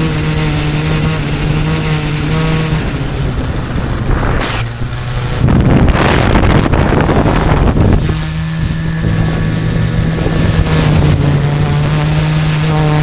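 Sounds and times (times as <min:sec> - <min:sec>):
drone propellers humming: 0:00.0 - 0:13.0
wind buffeting microphone: 0:01.1 - 0:13.0.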